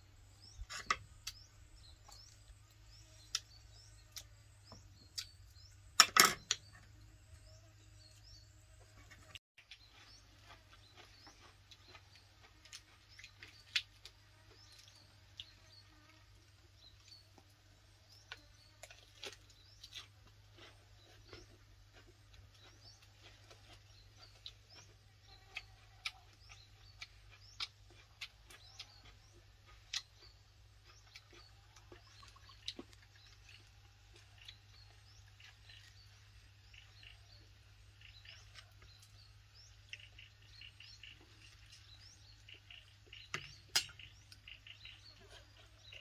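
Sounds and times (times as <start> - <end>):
birds chirping: 0.0 - 46.0
person eating chicken by hand: 8.9 - 46.0.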